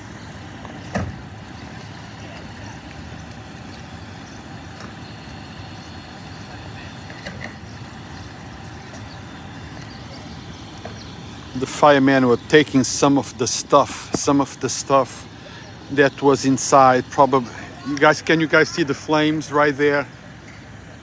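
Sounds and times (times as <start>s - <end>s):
street noise: 0.0s - 21.0s
vehicle engine idling: 0.0s - 21.0s.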